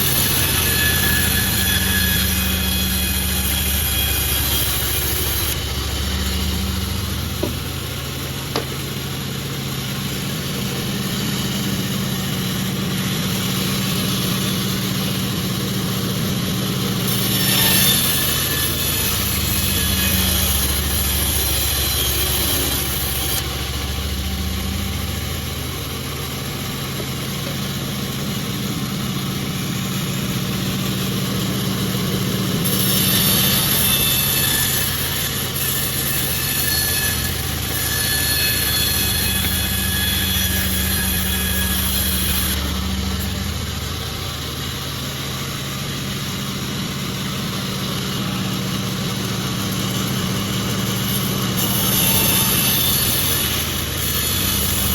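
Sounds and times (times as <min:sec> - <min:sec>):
saw cutting through wood: 0:00.0 - 0:54.9
sawmill machine humming: 0:00.0 - 0:54.9.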